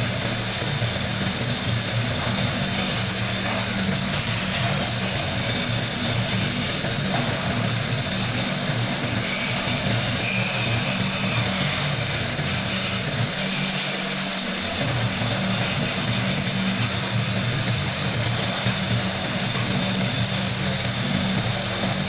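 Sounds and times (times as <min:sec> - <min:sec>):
low machine hum: 0:00.0 - 0:22.0
sandblaster hissing: 0:00.0 - 0:22.0.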